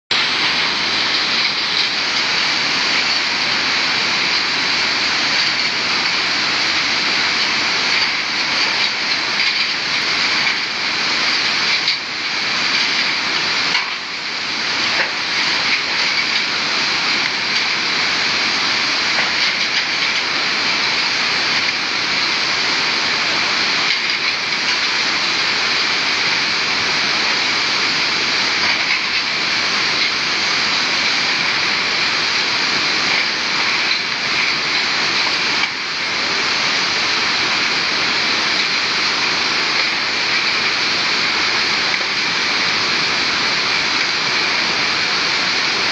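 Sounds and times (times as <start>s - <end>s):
river rushing: 0.1s - 45.9s.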